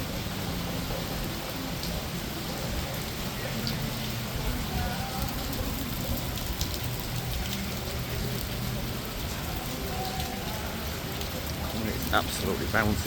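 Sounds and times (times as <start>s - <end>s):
heavy rain pouring: 0.0s - 13.0s
raindrops ticking on surfaces: 0.0s - 13.0s.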